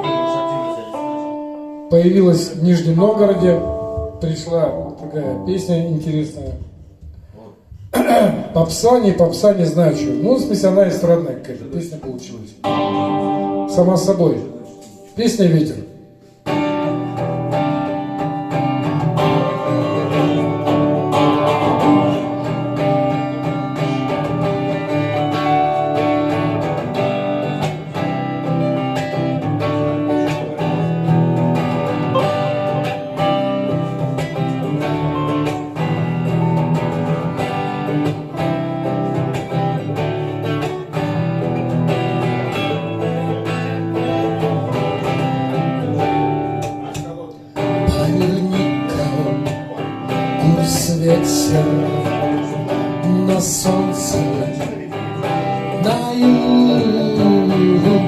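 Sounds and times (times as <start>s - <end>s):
guitar playing chords: 0.0s - 58.0s.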